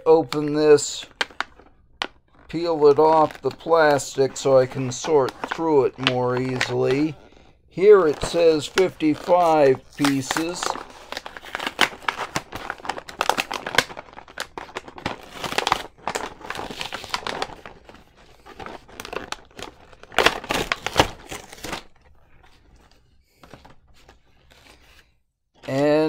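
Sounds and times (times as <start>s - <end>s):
plastic packaging crackling: 0.0s - 25.0s.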